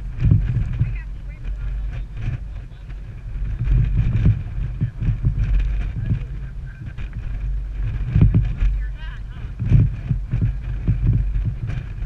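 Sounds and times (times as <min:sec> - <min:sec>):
engine idling: 0:00.0 - 0:12.0
wind buffeting microphone: 0:00.0 - 0:12.0.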